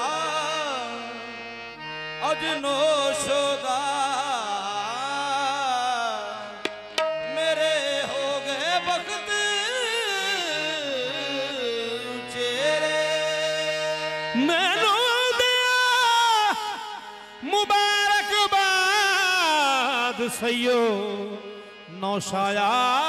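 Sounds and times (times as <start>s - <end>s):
harmonium notes: 0.0s - 23.0s
tabla: 0.0s - 23.0s.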